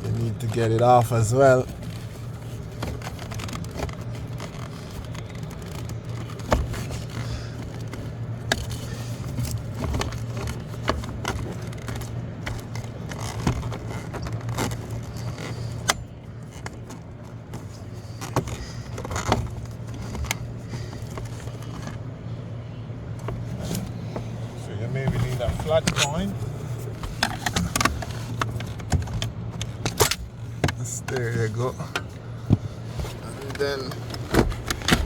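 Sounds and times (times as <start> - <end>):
steady low hum: 0.0 - 35.0
plastic clicks and scrapes: 1.6 - 22.0, 25.1 - 35.0.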